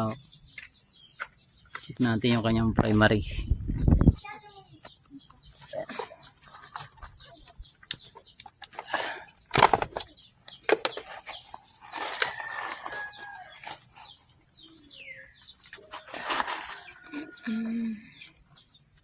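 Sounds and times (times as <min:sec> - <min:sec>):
birds chirping: 0:00.0 - 0:03.2, 0:04.0 - 0:19.0
high-pitched insect drone: 0:00.0 - 0:19.0.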